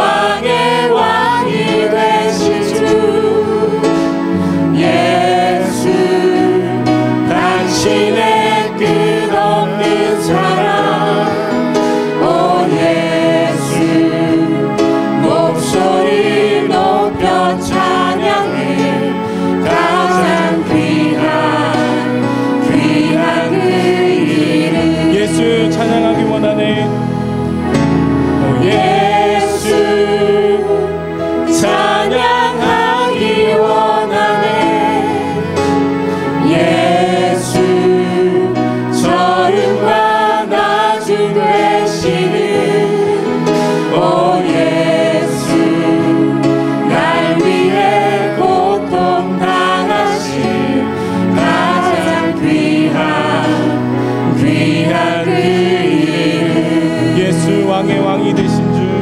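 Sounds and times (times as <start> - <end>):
band accompaniment: 0.0 - 59.0
group singing in harmony: 0.0 - 59.0.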